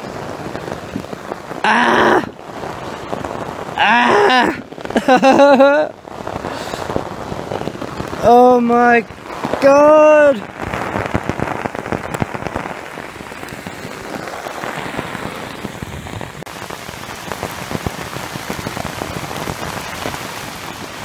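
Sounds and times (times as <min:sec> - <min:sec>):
heavy rain on a poncho shelter: 0:00.0 - 0:21.0.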